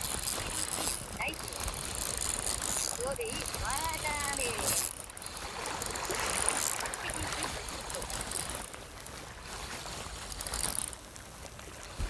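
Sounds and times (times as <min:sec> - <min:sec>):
fishing reel winding: 0:00.0 - 0:09.2, 0:10.2 - 0:11.2
seawater sloshing on rocks: 0:00.0 - 0:12.0.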